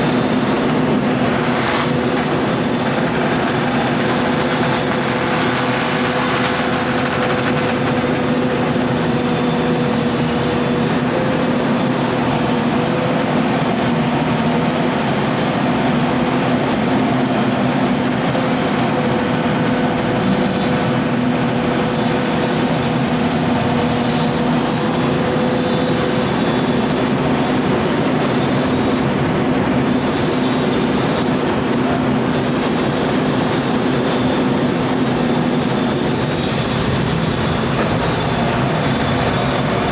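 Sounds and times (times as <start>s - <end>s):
excavator diesel engine running: 0.0s - 39.9s
high engine tone: 0.0s - 39.9s.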